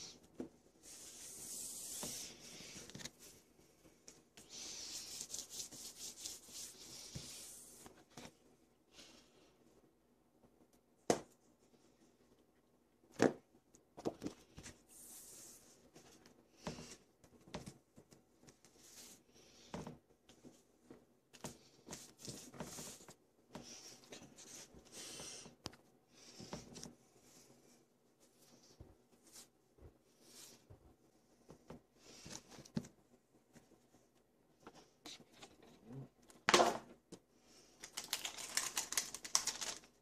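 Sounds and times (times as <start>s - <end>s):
hands rubbing and rustling: 0.0s - 8.4s, 14.0s - 35.6s, 37.8s - 40.0s.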